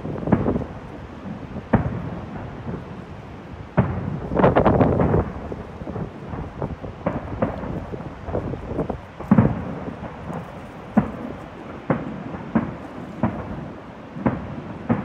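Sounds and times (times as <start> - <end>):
distant fireworks booming: 0.0 - 15.0.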